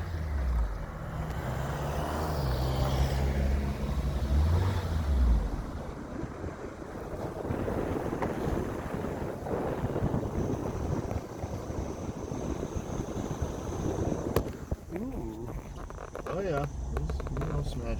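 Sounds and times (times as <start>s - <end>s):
car engine hum: 0.0s - 17.9s
road noise: 0.0s - 17.9s.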